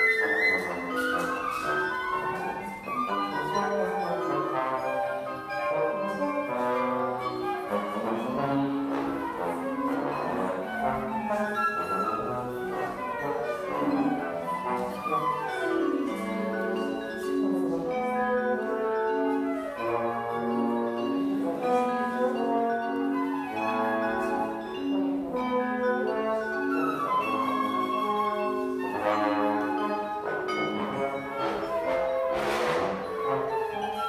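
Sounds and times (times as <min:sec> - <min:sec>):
flute: 0:00.0 - 0:34.0
struck mallet percussion notes: 0:00.0 - 0:34.0
trombone: 0:00.0 - 0:34.0.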